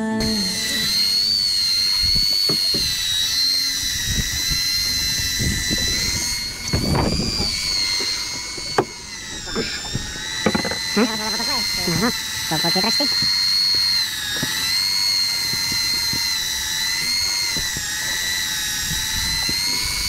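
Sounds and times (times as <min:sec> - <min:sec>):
boat engine whining: 0:00.0 - 0:20.0
low rumbling: 0:00.0 - 0:20.0.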